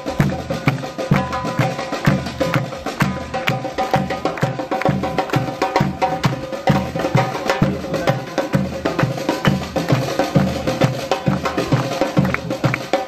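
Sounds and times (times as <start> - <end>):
deep bass drum beats: 0.0 - 13.0.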